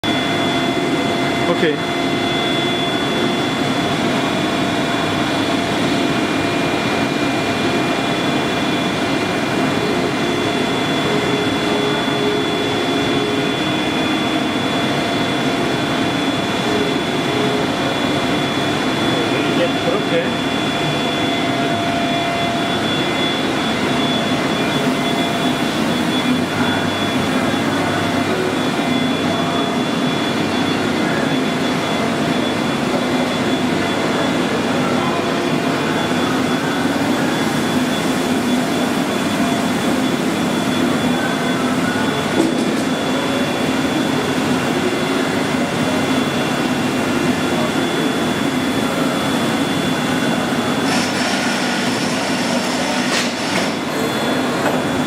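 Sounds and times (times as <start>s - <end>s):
high-pitched whine: 0.0s - 55.0s
milling machine humming: 0.0s - 55.0s.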